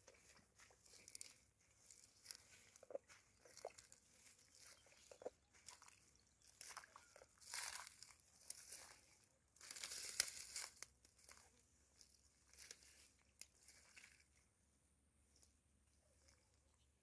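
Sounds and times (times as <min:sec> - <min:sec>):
footsteps crunching dry grass: 0:00.0 - 0:14.4.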